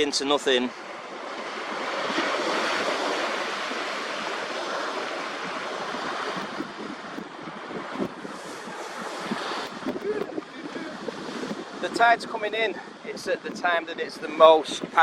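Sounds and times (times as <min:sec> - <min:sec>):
waves washing onto shore: 0:00.0 - 0:15.0.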